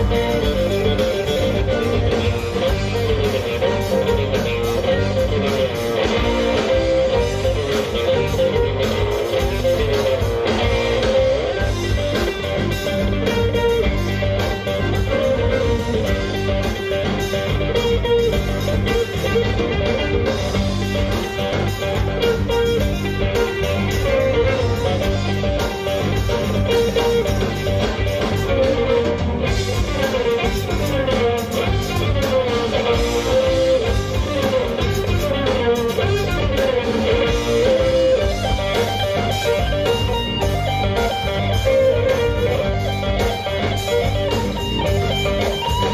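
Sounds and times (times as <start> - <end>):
fiddle: 0.0 - 45.9
live rock band playing: 0.0 - 45.9.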